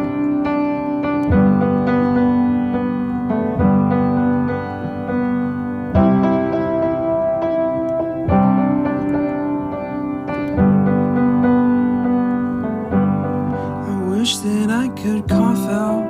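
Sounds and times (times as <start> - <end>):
song with piano chords: 0.0 - 16.0.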